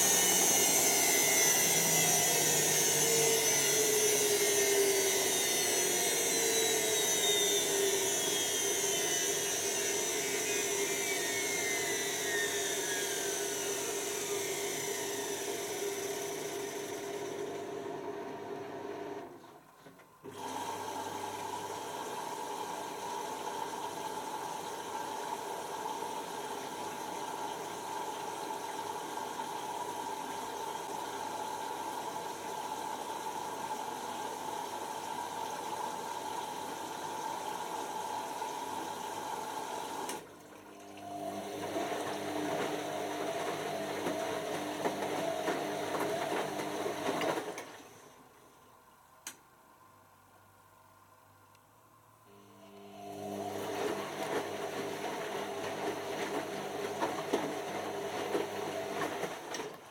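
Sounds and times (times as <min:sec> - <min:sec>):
washing machine motor whine: 0:00.0 - 0:48.5, 0:52.3 - 0:59.9.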